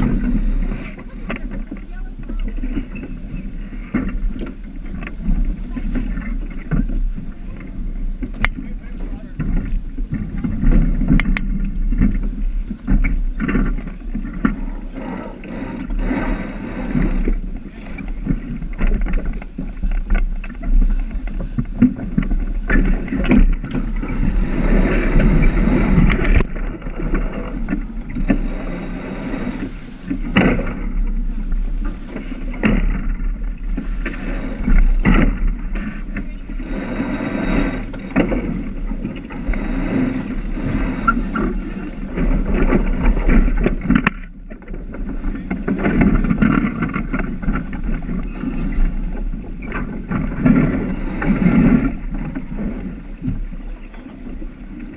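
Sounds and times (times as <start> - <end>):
water rushing along hull: 0.0 - 54.9
wind buffeting microphone: 0.0 - 54.9.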